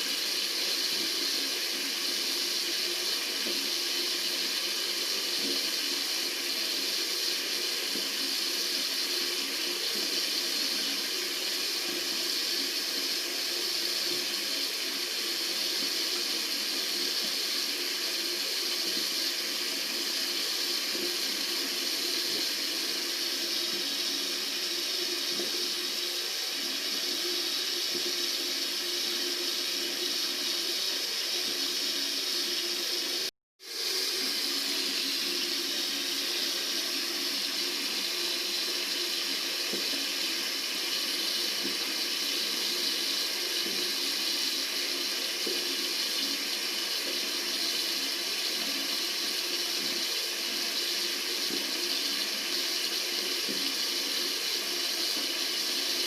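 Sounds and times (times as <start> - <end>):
tap water running: 0.0 - 56.0.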